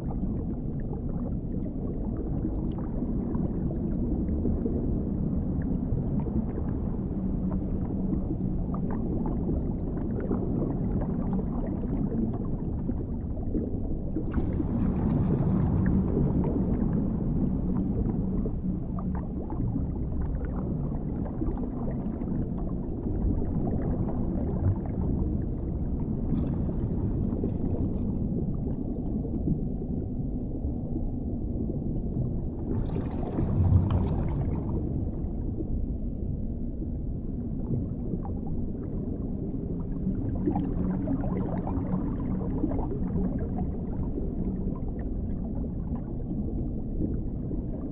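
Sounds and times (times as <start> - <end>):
muffled underwater rumble: 0.0 - 47.9.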